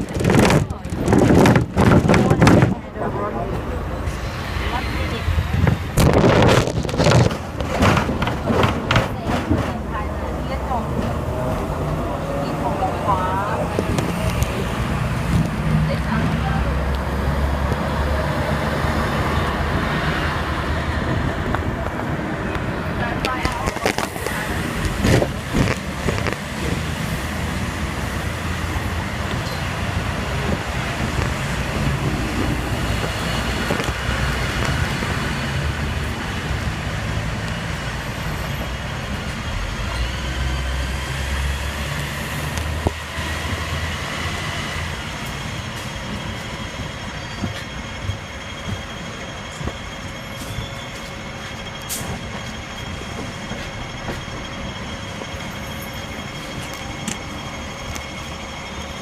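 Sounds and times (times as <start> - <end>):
tram wheels rumbling on rail: 0.0 - 59.0.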